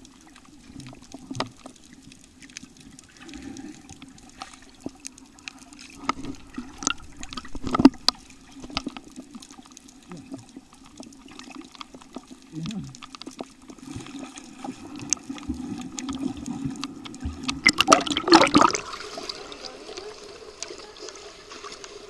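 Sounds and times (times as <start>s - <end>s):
muffled underwater wash: 0.0s - 22.0s.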